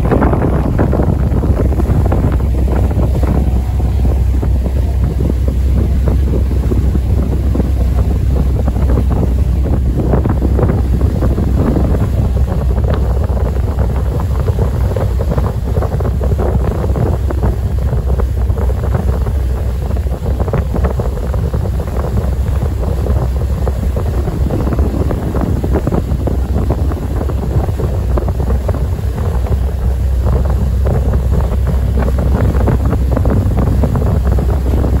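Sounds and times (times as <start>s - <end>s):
ship engine low rumble: 0.0s - 35.0s
wind buffeting microphone: 0.0s - 35.0s.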